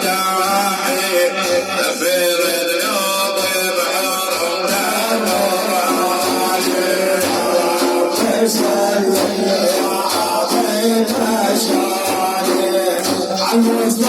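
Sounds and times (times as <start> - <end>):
frame drums with jingles: 0.0 - 14.0
sustained singing: 0.0 - 14.0.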